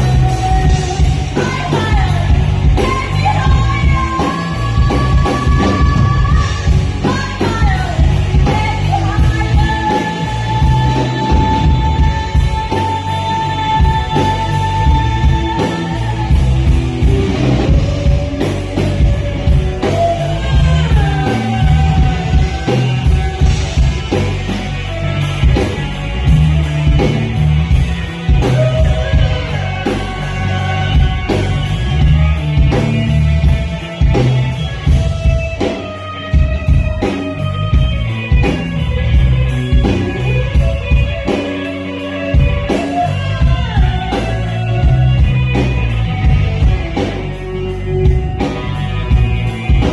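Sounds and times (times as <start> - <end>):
bass: 0.0 - 49.9
drum kit: 0.0 - 49.9
electric guitars: 0.0 - 49.9.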